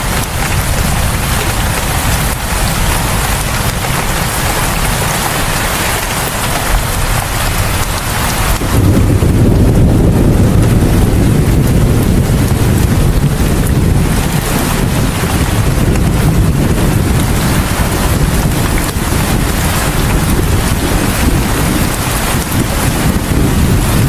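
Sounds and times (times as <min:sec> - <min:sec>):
low rumble: 0:00.0 - 0:24.0
rain hissing: 0:00.0 - 0:24.0.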